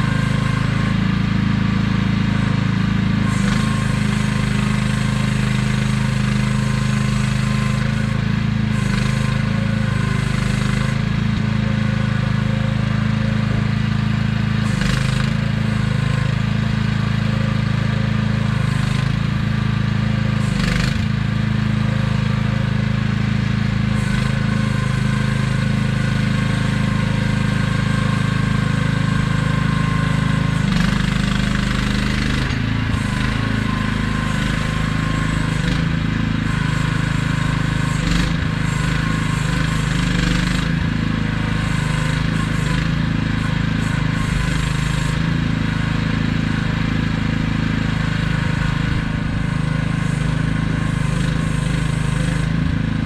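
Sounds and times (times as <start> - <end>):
excavator engine running: 0.0 - 53.0.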